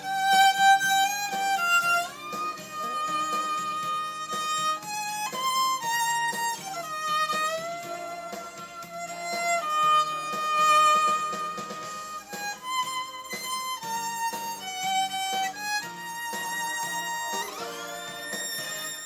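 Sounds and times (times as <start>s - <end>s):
muted violin melody: 0.0s - 19.0s.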